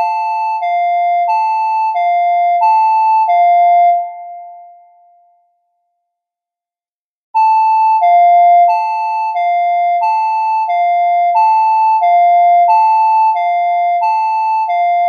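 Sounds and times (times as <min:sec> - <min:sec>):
two-tone emergency alarm: 0:00.0 - 0:05.2, 0:07.4 - 0:15.0.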